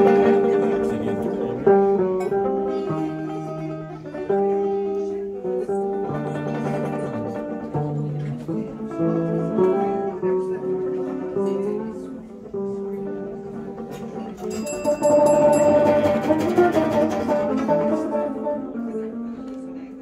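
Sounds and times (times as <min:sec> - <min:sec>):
acoustic string band playing: 0:00.0 - 0:20.0.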